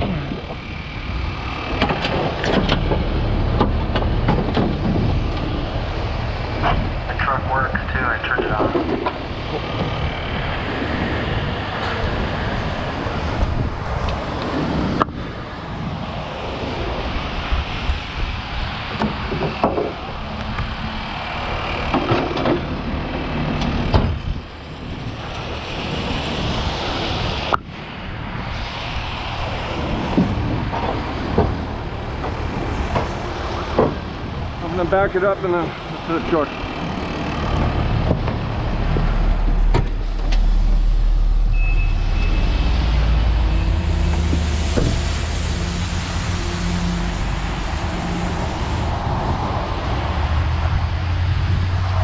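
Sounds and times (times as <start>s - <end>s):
traffic noise: 0.0s - 52.0s
wind buffeting microphone: 0.0s - 52.0s.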